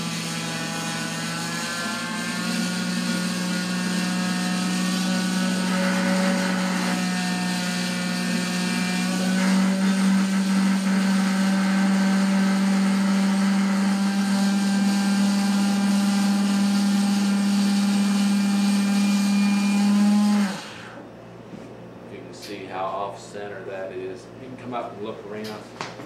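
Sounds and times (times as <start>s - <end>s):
small electric motor running: 0.0s - 21.0s.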